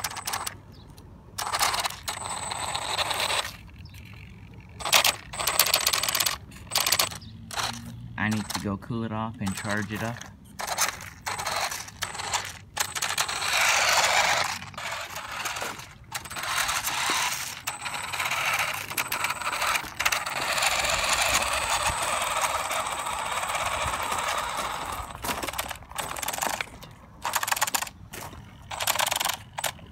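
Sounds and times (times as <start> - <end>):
rc snowmobile driving over gravel: 0.0 - 29.9.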